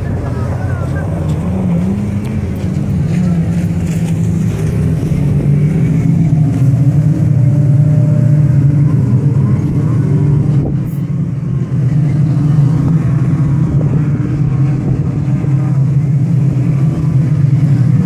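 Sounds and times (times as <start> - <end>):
jet ski engines droning: 0.0 - 18.0.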